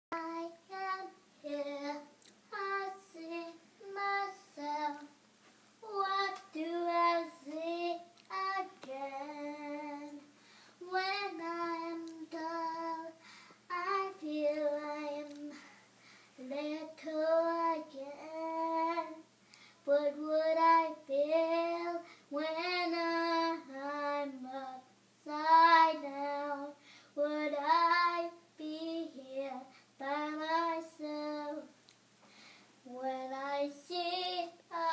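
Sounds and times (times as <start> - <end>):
girl singing unaccompanied: 0.1 - 5.2, 5.8 - 31.8, 32.8 - 34.9.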